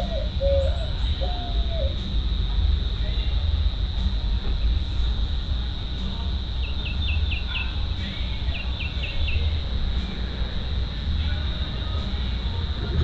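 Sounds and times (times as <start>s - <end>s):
crickets trilling: 0.0s - 13.0s
steady low rumble: 0.0s - 13.0s.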